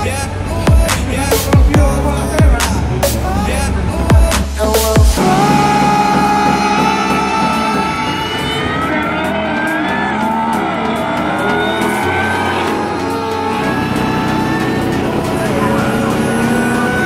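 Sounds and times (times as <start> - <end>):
music: 0.0 - 17.0
racing engines revving: 0.0 - 17.0.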